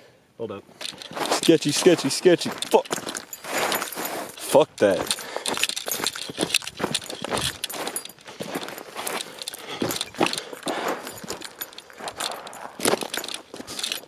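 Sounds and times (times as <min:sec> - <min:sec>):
footsteps crunching on gravel: 0:00.8 - 0:14.0.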